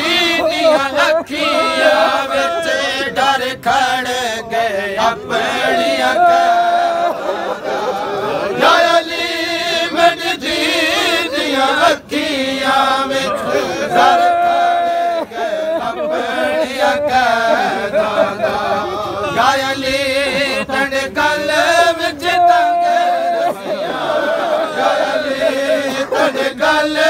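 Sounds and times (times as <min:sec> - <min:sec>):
man chanting a lament: 0:00.0 - 0:27.0.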